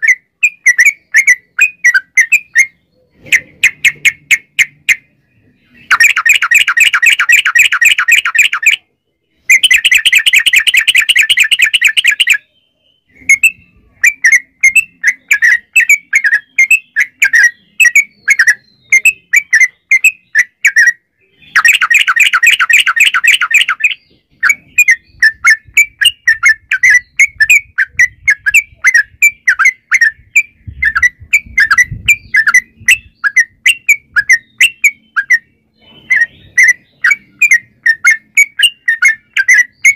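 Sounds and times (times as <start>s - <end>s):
bird chattering trills: 0.0s - 12.5s, 13.1s - 39.9s
sharp bird chirps: 0.0s - 39.9s.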